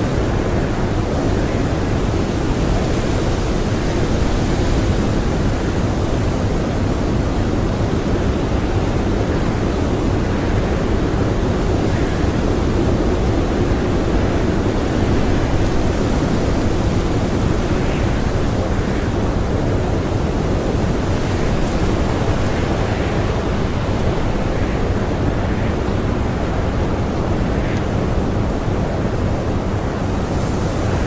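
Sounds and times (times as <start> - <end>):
blizzard wind blowing hard: 0.0 - 31.0.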